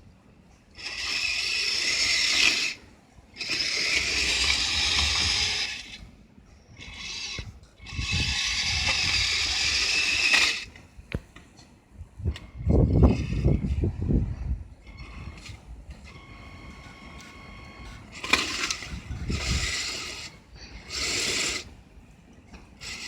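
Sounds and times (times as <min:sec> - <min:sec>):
toy vehicle motor and tracks whirring: 0:00.6 - 0:10.9, 0:12.2 - 0:23.0.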